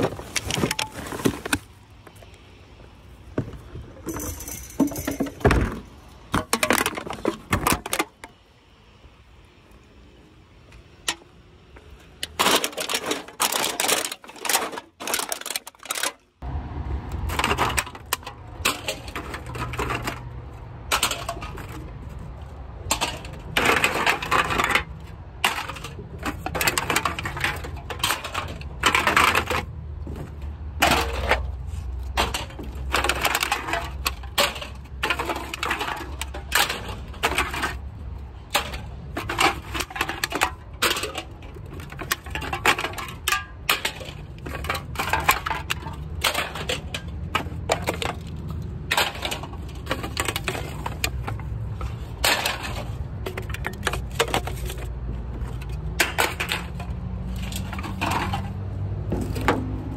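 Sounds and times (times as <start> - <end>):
aluminum cans clattering: 0.0 - 1.7, 4.0 - 8.4, 12.2 - 16.3, 17.3 - 21.9, 22.8 - 37.9, 38.5 - 59.9.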